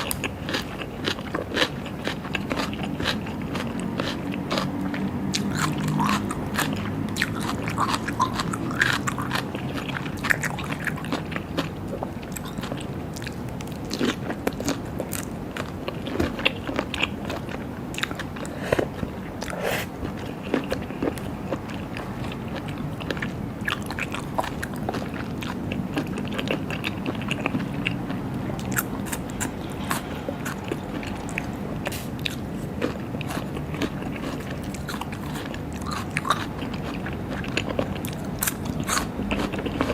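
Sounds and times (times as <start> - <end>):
wet chewing and biting: 0.0 - 39.9.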